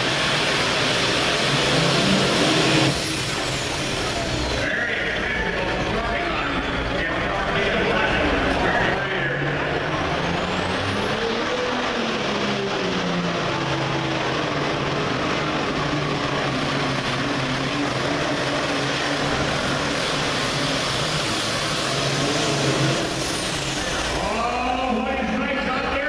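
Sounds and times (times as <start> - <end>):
diesel tractor engine running flat out: 0.0 - 26.0.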